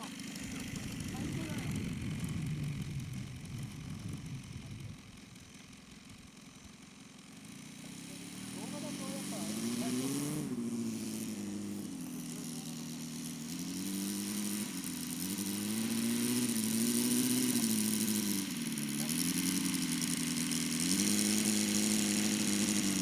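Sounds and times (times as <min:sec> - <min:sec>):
model plane engine running: 0:00.0 - 0:23.0.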